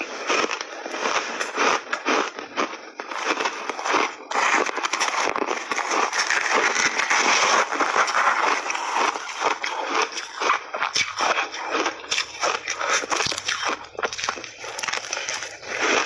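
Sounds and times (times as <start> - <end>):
crunching shaved ice: 0.0 - 16.0.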